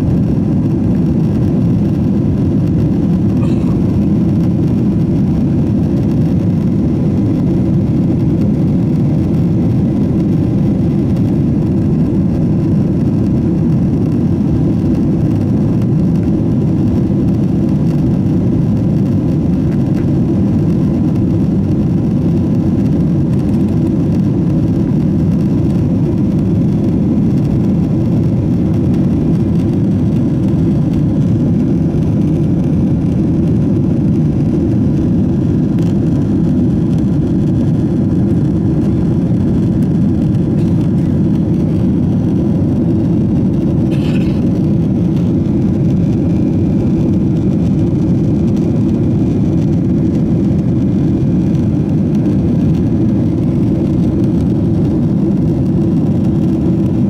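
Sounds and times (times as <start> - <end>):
faint steady whine: 0.0 - 57.0
jet engine cabin rush: 0.0 - 57.0.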